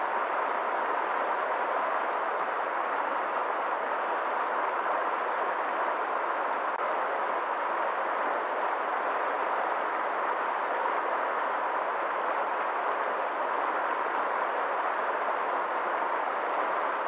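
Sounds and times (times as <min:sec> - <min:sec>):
river rushing through rapids: 0:00.0 - 0:17.0.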